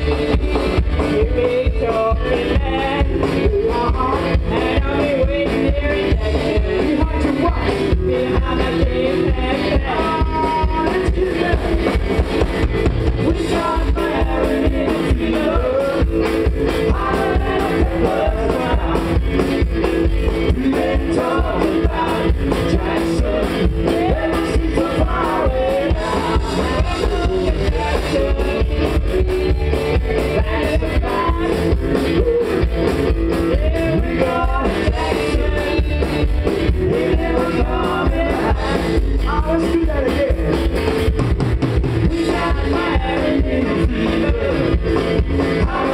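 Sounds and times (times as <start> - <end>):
drum kit: 0.0 - 45.9
electric guitar: 0.0 - 45.9
upright double bass: 0.0 - 45.9.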